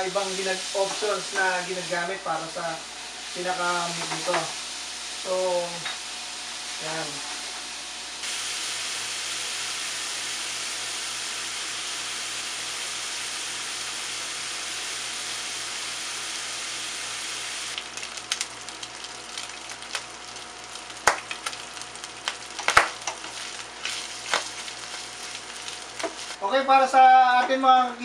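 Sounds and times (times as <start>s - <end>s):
sausage meat sizzling in a pan: 0.0s - 5.8s, 8.2s - 26.4s.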